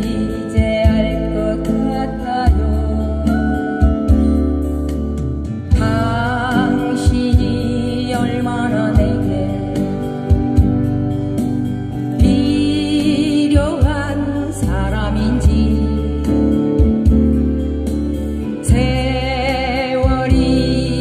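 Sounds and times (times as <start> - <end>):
person singing with vibrato: 0.0 - 4.8, 5.7 - 10.7, 11.9 - 21.0
acoustic guitars through speakers: 0.0 - 21.0.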